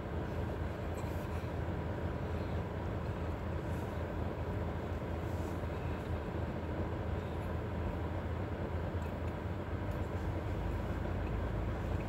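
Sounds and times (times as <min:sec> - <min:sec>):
low rumble in car cabin: 0:00.0 - 0:12.0.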